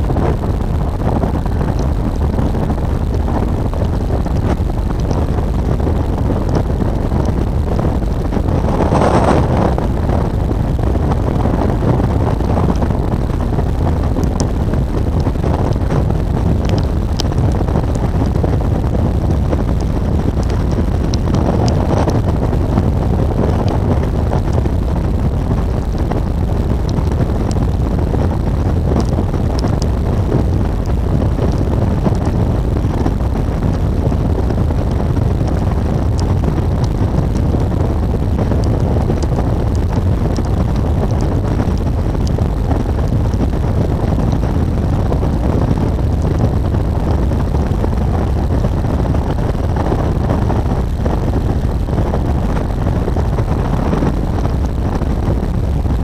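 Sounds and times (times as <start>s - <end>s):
wind noise: 0.0s - 56.0s.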